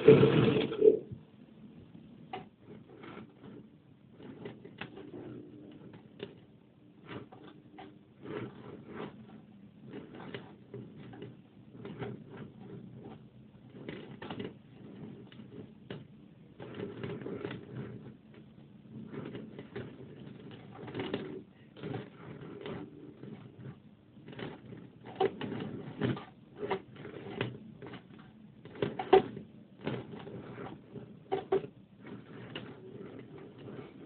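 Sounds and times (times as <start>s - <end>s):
mice scratching and gnawing: 2.4s - 34.0s.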